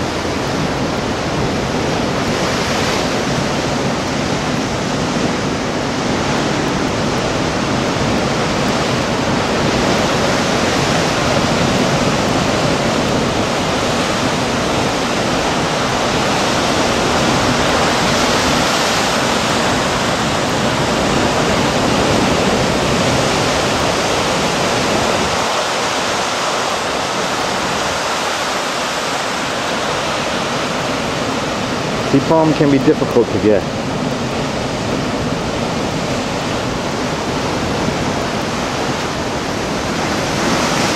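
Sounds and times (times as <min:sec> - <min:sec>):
surf breaking over rocks: 0:00.0 - 0:40.9.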